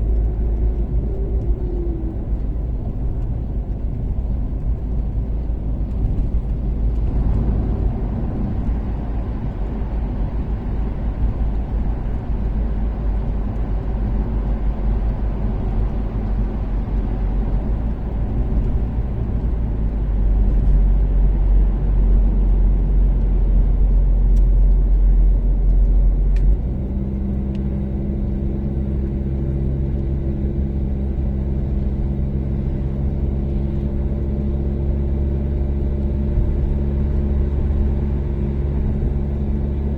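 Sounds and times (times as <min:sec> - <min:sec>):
car engine cruising: 0:00.0 - 0:39.9
steady engine drone: 0:00.0 - 0:39.9.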